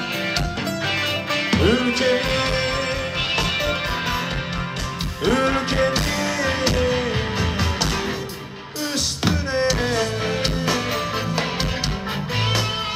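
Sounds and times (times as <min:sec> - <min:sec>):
live rock band playing: 0:00.0 - 0:12.9.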